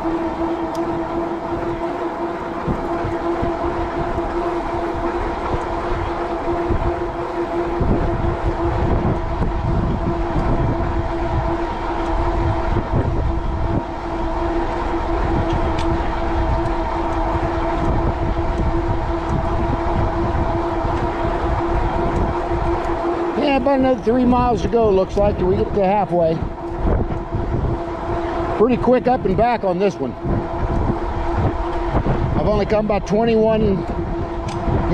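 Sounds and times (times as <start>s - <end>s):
hub motor whine: 0.0s - 34.9s
wind buffeting microphone: 0.0s - 34.9s.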